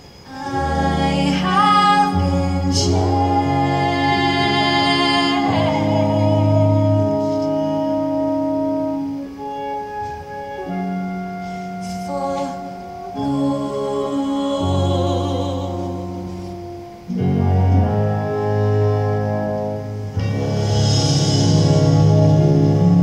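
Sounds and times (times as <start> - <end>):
orchestra playing slow chords: 0.0 - 23.0.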